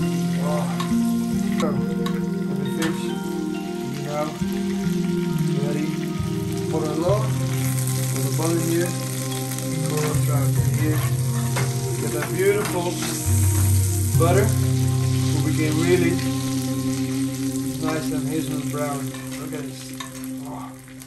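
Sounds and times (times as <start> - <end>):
background music with bass: 0.0 - 21.0
fish sizzling in a pan: 0.0 - 21.0.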